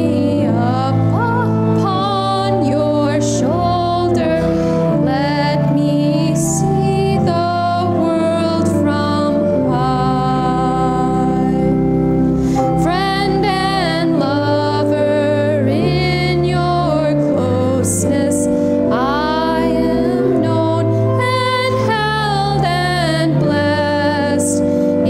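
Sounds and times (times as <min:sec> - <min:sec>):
organ sustained chords: 0:00.0 - 0:25.0.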